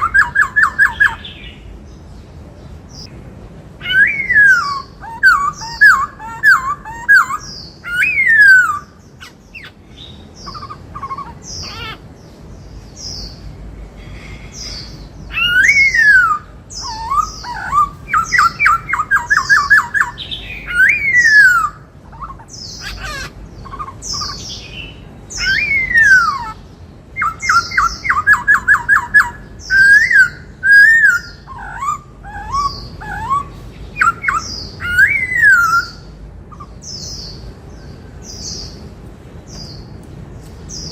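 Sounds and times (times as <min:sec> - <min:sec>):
bird singing whistled song: 0:00.0 - 0:01.7, 0:03.8 - 0:12.0, 0:14.6 - 0:26.6, 0:27.2 - 0:38.8.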